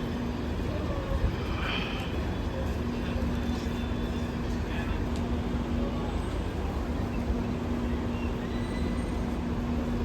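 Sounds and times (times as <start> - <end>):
train rumbling with hum: 0.0 - 10.0.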